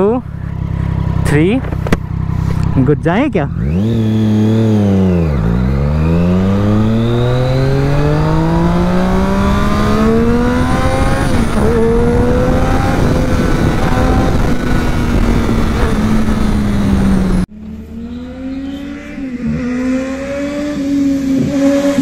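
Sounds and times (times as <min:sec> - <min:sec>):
motorcycle engine accelerating hard: 0:00.0 - 0:22.0.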